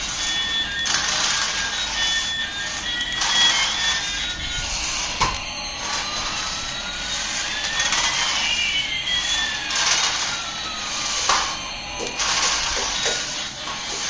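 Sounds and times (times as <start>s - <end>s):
jet engine rushing and whining: 0.0s - 14.0s.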